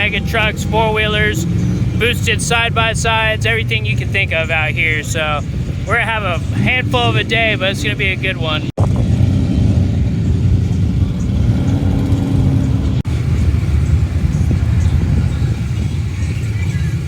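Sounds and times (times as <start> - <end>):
truck engines rumbling: 0.0 - 17.0.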